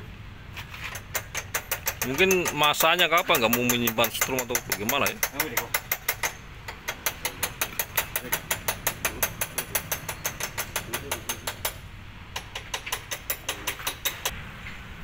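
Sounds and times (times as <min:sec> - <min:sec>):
metallic clicking of hand tool: 0:00.8 - 0:11.8, 0:12.4 - 0:14.3.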